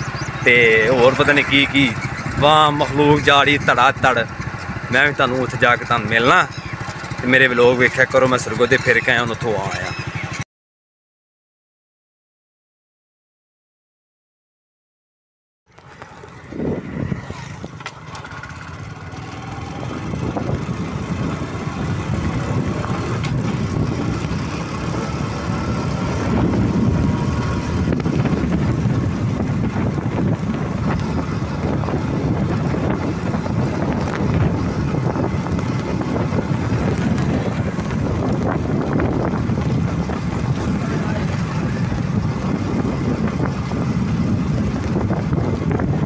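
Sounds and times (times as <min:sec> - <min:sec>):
motorcycle engine accelerating: 0:00.0 - 0:10.4, 0:15.7 - 0:46.0.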